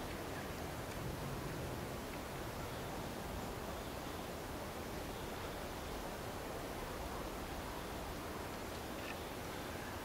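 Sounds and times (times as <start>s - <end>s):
outdoor rustling hiss: 0.0s - 10.0s.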